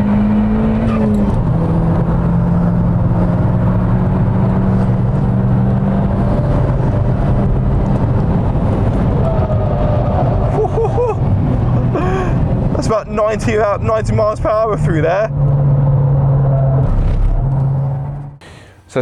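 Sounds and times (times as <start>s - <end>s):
car engine running hard: 0.0s - 18.4s
road and tyre noise: 0.0s - 19.0s.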